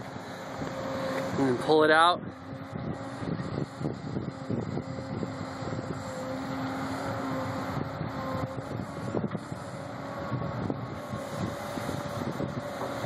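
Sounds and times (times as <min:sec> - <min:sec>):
excavator diesel engine under load: 0:00.0 - 0:13.0.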